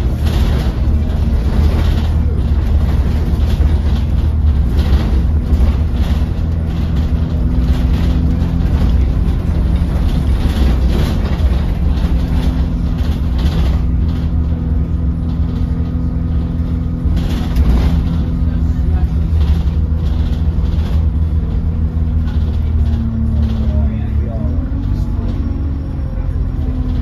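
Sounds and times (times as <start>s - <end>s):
bus diesel engine drone: 0.0s - 27.0s
road and cabin noise: 0.0s - 27.0s.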